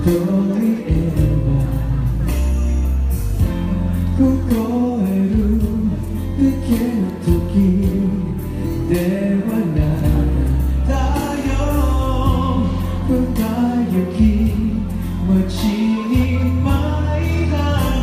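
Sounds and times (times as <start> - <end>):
backing music with bass line: 0.0 - 18.0
man singing into microphone: 0.0 - 18.0.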